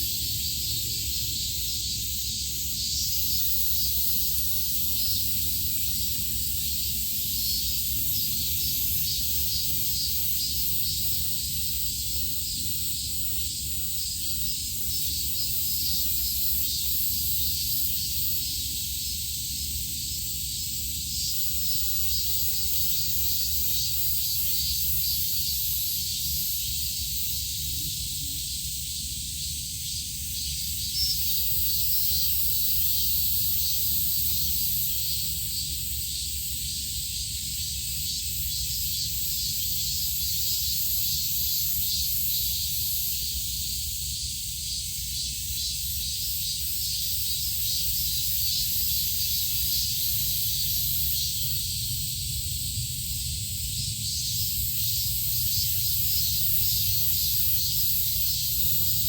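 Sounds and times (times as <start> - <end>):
high-pitched outdoor hiss: 0.0 - 59.0.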